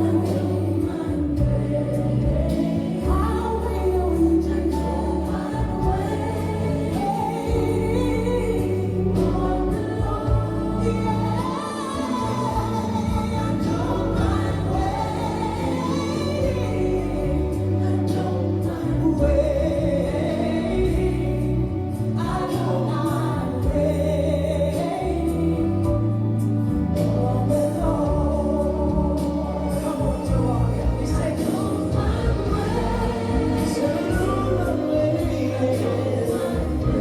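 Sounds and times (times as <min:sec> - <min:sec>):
keyboard and bass accompaniment: 0:00.0 - 0:37.0
voices singing gospel song: 0:00.0 - 0:37.0.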